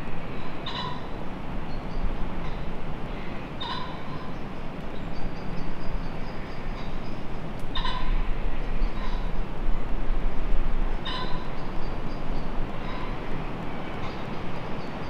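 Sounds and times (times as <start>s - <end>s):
faint birdsong: 0.0s - 9.4s, 10.4s - 15.0s
strong wind through trees: 0.0s - 15.0s.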